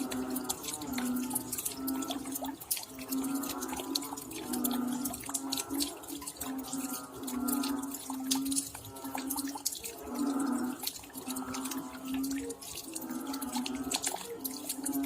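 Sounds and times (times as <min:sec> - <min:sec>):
raindrops dripping and tapping: 0:00.0 - 0:15.0.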